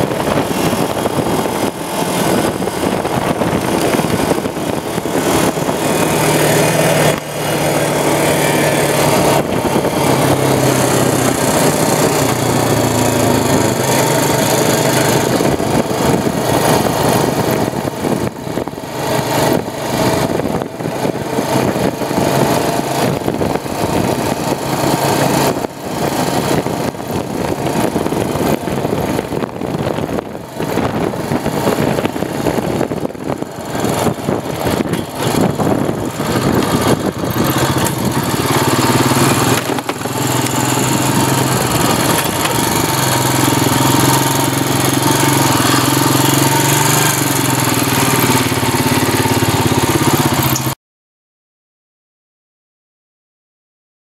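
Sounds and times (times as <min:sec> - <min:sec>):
atv engine running: 0:00.0 - 0:50.8
wind and road noise: 0:00.0 - 0:50.8.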